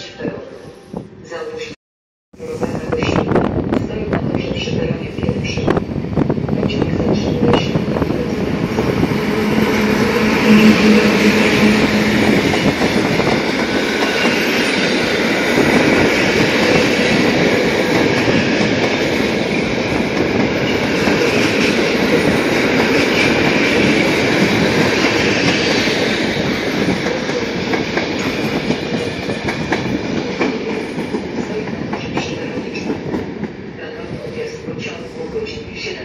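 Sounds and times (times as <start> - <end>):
train wheels rumbling on rail: 2.4 - 36.0.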